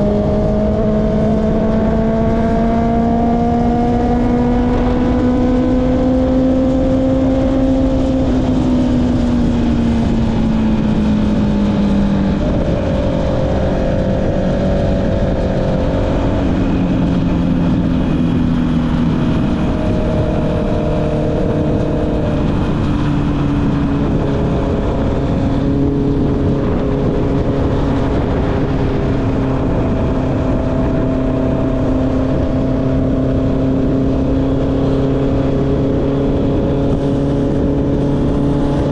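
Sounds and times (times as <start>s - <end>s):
motorcycle engine: 0.0s - 38.9s
wind and road noise: 0.0s - 38.9s.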